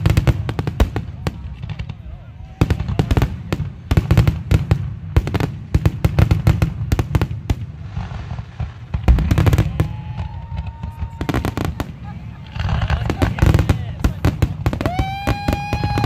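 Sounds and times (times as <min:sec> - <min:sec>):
fireworks bursts and bangs: 0:00.0 - 0:16.0.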